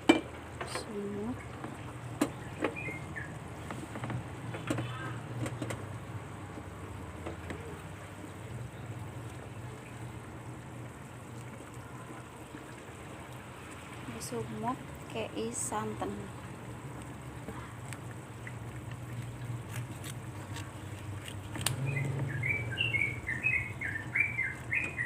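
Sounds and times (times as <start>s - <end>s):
stew cooking low rumble: 0.0s - 25.0s.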